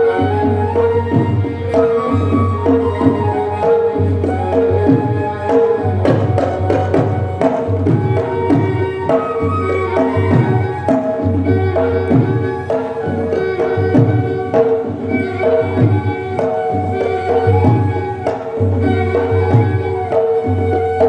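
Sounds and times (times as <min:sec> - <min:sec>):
hand drum strokes: 0:00.0 - 0:21.0.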